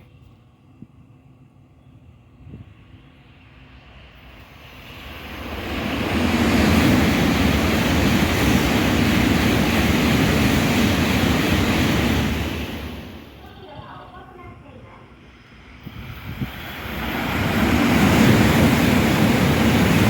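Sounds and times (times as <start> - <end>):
train passing with rushing roar: 0.6 - 20.0.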